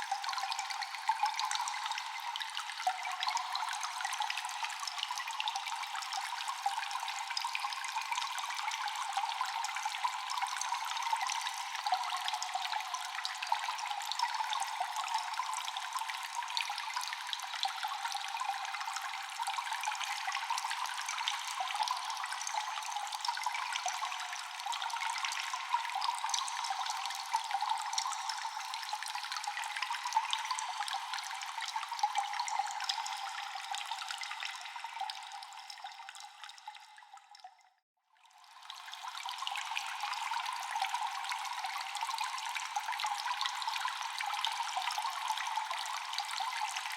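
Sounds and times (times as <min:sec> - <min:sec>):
water dripping in cave: 0:00.0 - 0:46.9
water trickling: 0:00.0 - 0:46.9.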